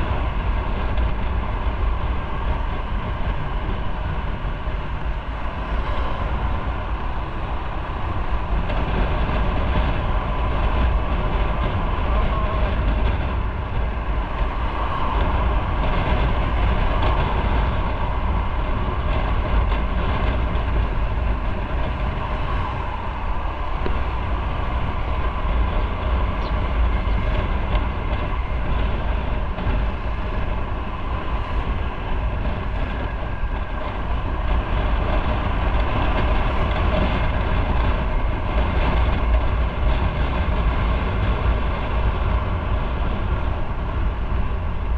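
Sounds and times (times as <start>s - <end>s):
motorcycle engine and road noise: 0.0s - 44.9s
wind rushing over microphone: 0.0s - 44.9s.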